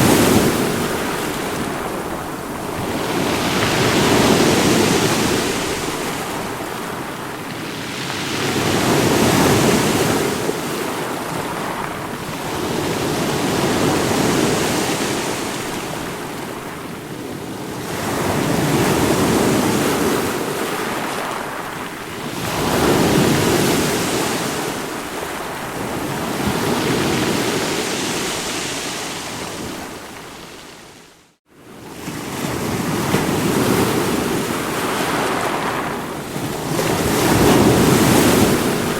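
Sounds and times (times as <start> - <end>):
waves breaking and washing in: 0.0 - 38.9.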